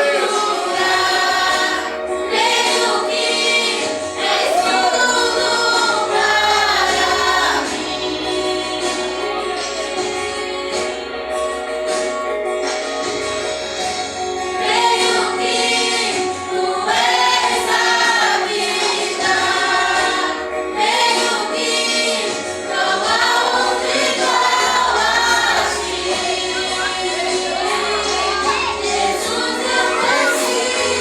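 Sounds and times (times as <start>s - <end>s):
vocal group singing worship song: 0.0s - 11.0s, 14.4s - 31.0s.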